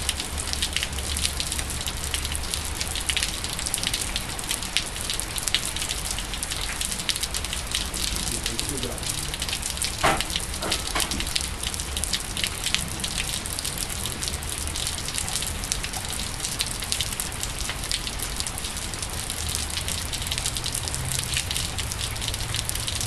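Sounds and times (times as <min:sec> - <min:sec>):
rain on wet pavement: 0:00.0 - 0:23.0.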